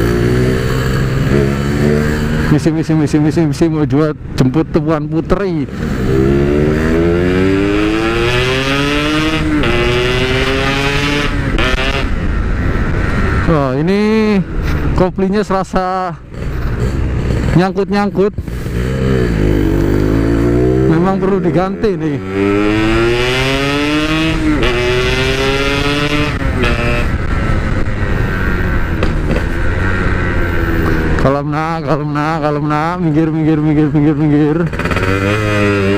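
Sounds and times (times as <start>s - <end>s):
motorcycle engine accelerating: 0.0s - 3.4s, 5.6s - 15.0s, 16.2s - 35.9s.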